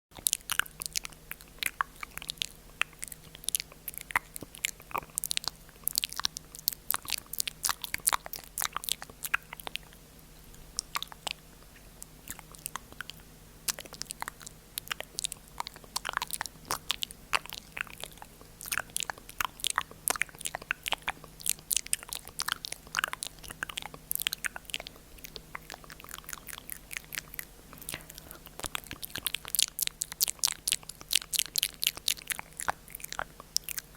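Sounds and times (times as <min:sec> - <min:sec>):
faint low hum: 0:00.1 - 0:33.9
mouth clicks and smacks: 0:00.1 - 0:33.9.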